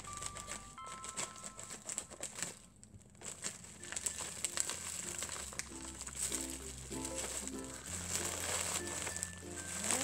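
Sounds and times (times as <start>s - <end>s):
plastic bag crinkling and rustling: 0.0s - 10.0s
scissors cutting plastic: 0.0s - 10.0s.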